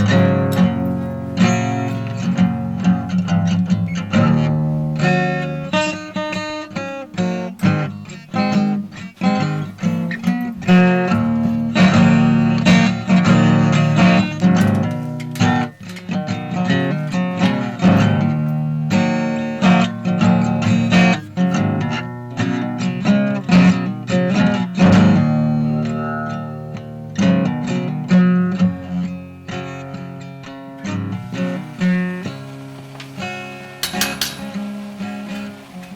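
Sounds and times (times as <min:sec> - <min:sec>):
acoustic guitar strummed and picked: 0:00.0 - 0:35.9.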